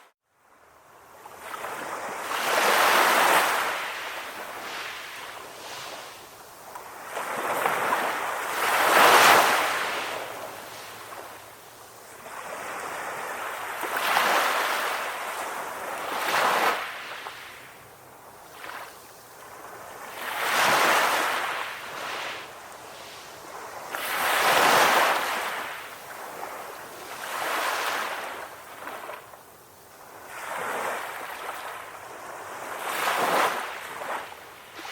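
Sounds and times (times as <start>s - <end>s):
sea waves breaking on beach: 1.4s - 29.3s, 30.0s - 34.9s.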